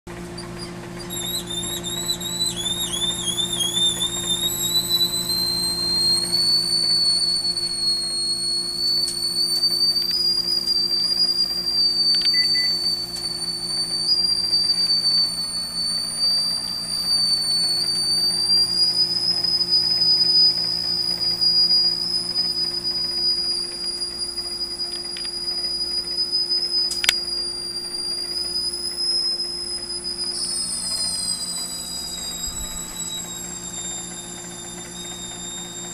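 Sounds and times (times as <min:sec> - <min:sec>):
microwave oven hum: 0:00.1 - 0:35.9
high-pitched steam whistle: 0:00.2 - 0:35.9.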